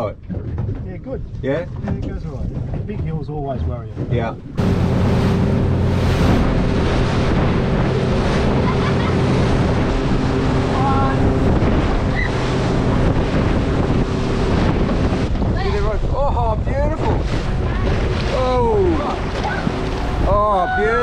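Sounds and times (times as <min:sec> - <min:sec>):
outboard motor drone: 0:00.0 - 0:21.0
water rushing off boat hull: 0:00.0 - 0:21.0
wind on microphone: 0:00.0 - 0:21.0.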